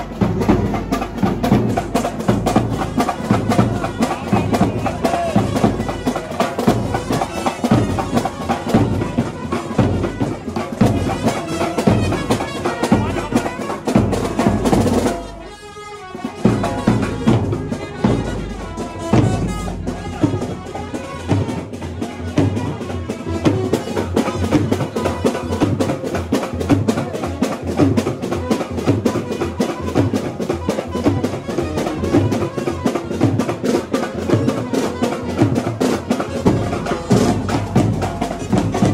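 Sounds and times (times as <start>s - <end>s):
loud fast drumming: 0.0s - 15.5s, 16.2s - 38.9s
street brass band playing: 0.0s - 38.9s.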